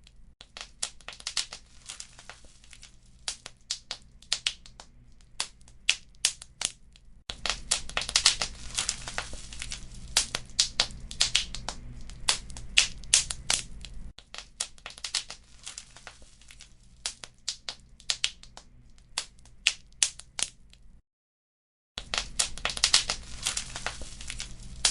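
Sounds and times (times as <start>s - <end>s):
wood fire crackling: 0.0s - 20.8s, 22.0s - 24.9s.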